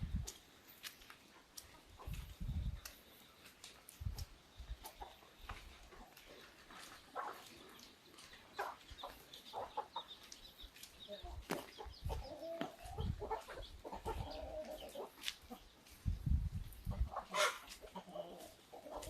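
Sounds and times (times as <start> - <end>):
chickens clucking: 1.2 - 19.0.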